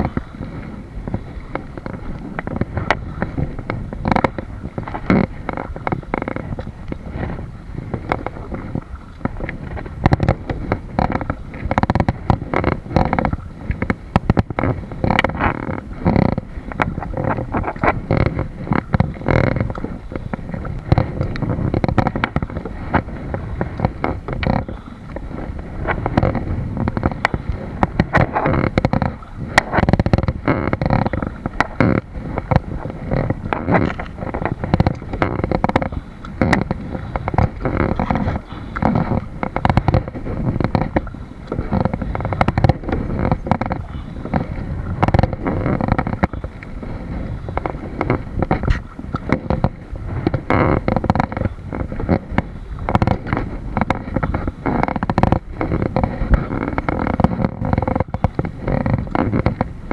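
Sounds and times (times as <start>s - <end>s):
muffled continuous rumbling: 0.0s - 59.9s
wind buffeting microphone: 0.0s - 59.9s.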